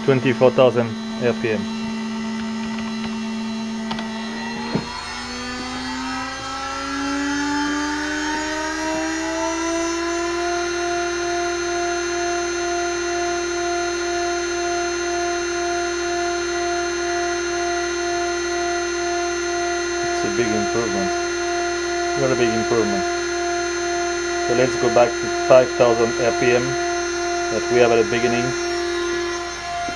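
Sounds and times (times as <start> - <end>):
spindle motor whine: 0.0 - 29.9.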